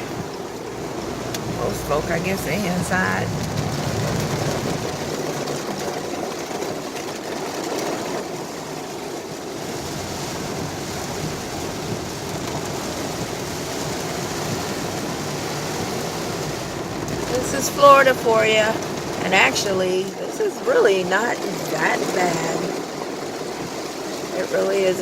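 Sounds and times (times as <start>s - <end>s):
rain falling on a car: 0.0s - 25.0s
tyres hissing on wet road: 0.0s - 25.0s.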